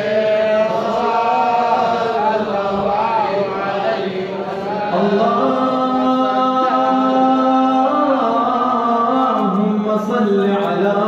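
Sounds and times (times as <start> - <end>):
man chanting into a microphone: 0.0 - 11.0.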